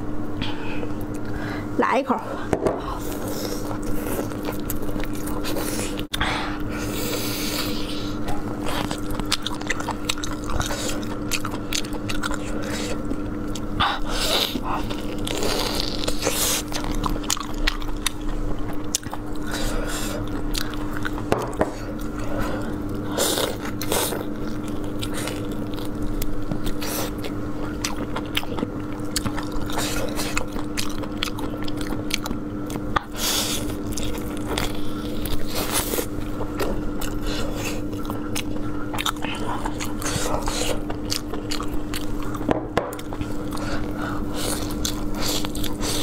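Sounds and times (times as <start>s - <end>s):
constant low hum: 0.0s - 46.0s
person chewing: 2.8s - 46.0s.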